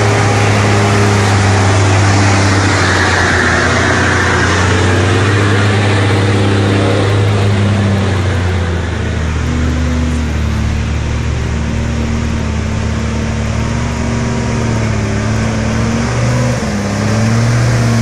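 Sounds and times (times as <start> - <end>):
road noise hiss: 0.0 - 18.0
truck engine droning: 0.0 - 18.0.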